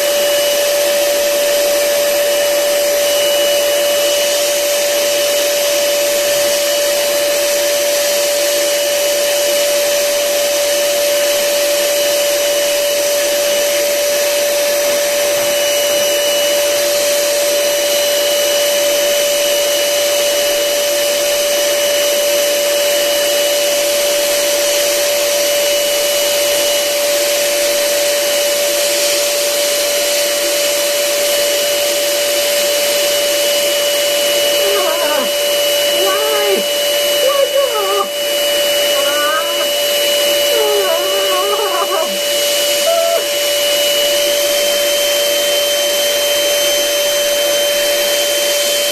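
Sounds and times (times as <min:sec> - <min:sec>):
electric air blower whining: 0:00.0 - 0:48.9.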